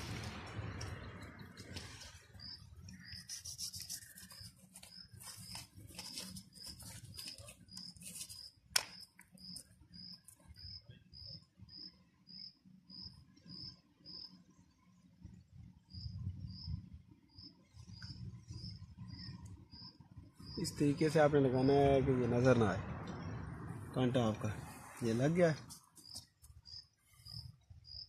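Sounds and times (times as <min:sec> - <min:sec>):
insect chirping: 0:00.0 - 0:22.0, 0:24.8 - 0:28.0.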